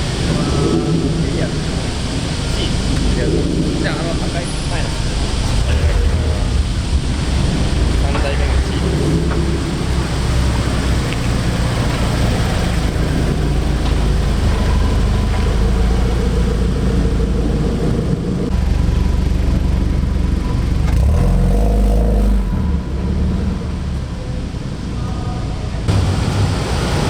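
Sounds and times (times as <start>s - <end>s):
car engine and exhaust rumbling: 0.0s - 27.0s.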